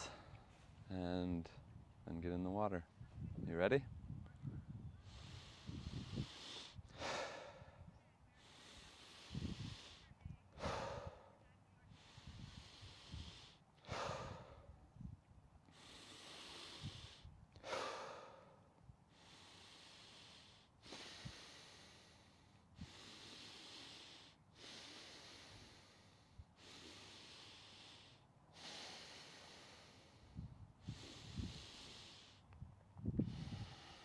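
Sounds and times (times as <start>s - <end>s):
deep forceful breathing: 0.0s - 0.6s, 4.7s - 15.1s, 15.7s - 34.0s.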